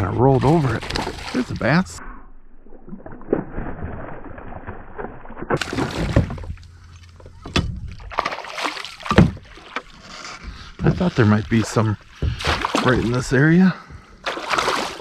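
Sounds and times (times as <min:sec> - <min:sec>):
water splashing beside kayak: 0:00.0 - 0:02.0, 0:02.8 - 0:15.0.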